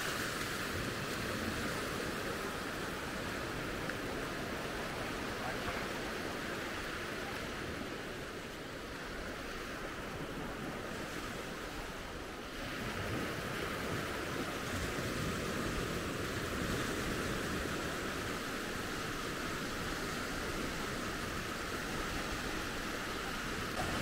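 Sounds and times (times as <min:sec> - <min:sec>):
surf waves washing on sand: 0:00.0 - 0:24.0.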